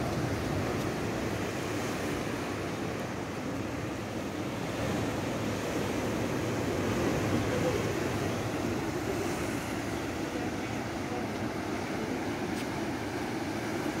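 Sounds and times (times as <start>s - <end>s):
surf breaking on shore: 0.0s - 14.0s.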